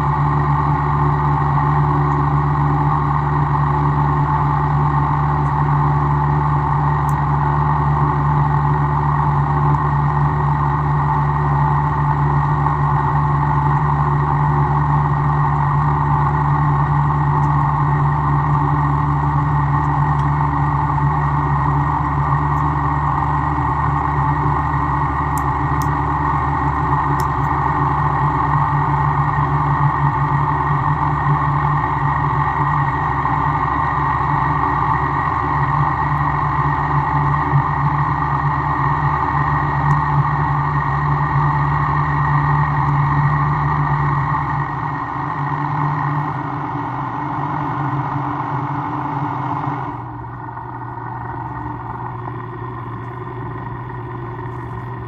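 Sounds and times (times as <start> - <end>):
workshop machine humming: 0.0 - 55.0.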